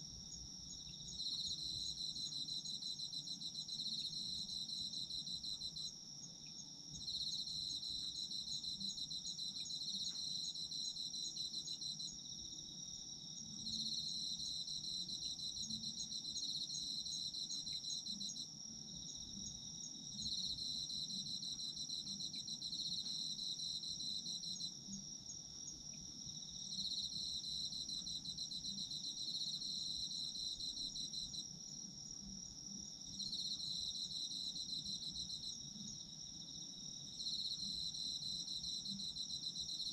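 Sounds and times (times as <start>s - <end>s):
high steady cricket trill: 0.0s - 39.9s
lower pulsing cricket trill: 0.0s - 39.9s.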